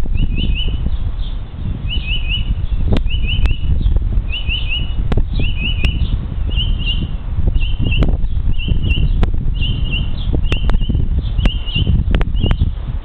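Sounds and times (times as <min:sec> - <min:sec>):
songbird singing rising notes: 0:00.0 - 0:12.8.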